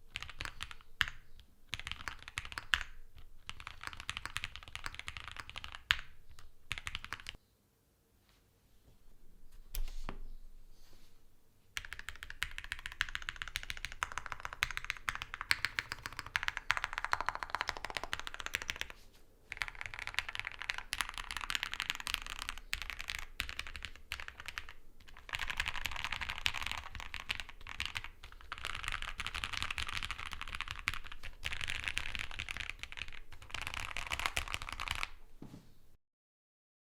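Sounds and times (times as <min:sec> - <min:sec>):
mechanical keyboard typing: 0:00.1 - 0:07.4, 0:11.8 - 0:35.2.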